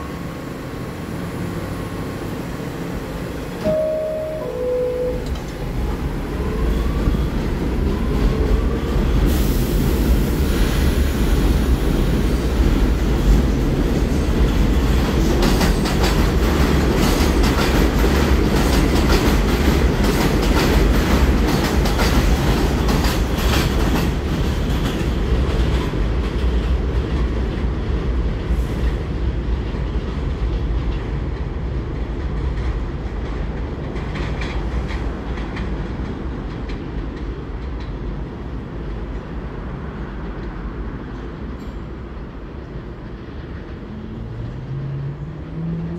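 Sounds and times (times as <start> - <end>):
subway train wheels clattering: 0.0 - 45.9.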